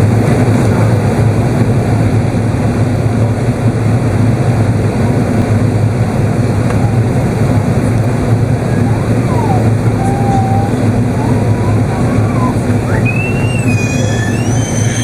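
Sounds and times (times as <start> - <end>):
airplane cabin roar: 0.0 - 15.0.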